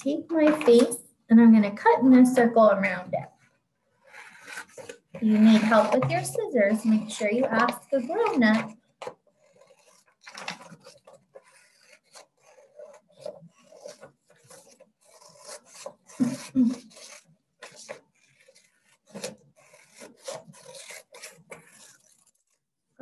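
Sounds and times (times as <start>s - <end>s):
scissors snipping paper: 4.1s - 22.6s.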